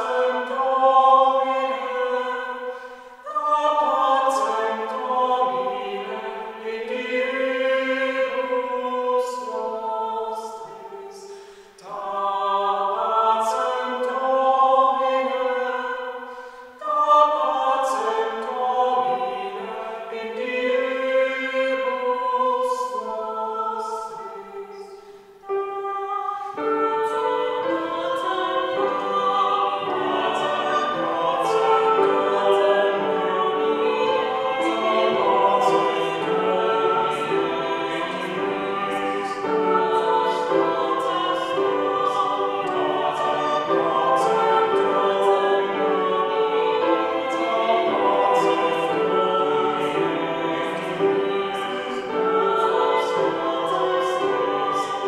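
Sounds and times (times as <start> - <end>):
vocal ensemble singing in parts: 0.0 - 55.0.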